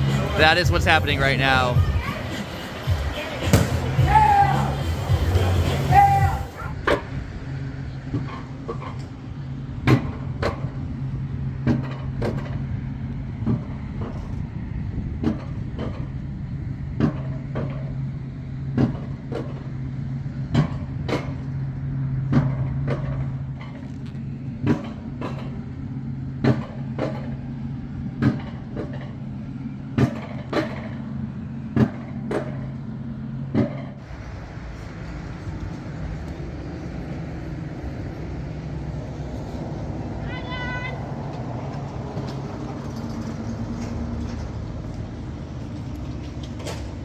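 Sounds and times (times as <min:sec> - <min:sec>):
coaster cart humming on track: 0:00.0 - 0:47.0
wheels clacking over track joints: 0:06.6 - 0:47.0.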